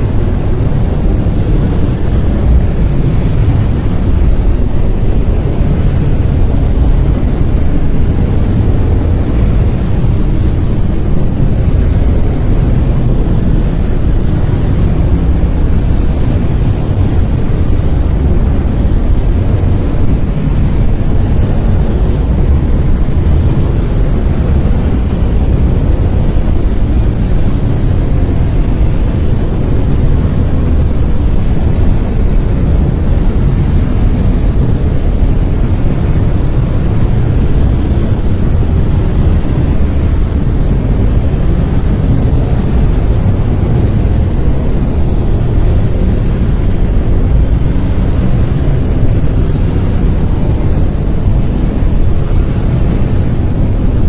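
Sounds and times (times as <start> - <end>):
brown noise rumbling hiss: 0.0 - 54.0.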